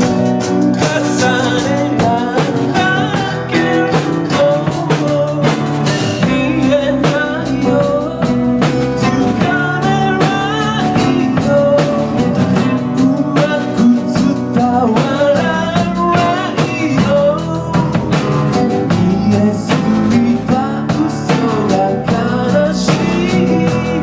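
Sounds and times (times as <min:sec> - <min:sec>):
live rock band playing: 0:00.0 - 0:24.0
steady drum beat: 0:00.0 - 0:24.0.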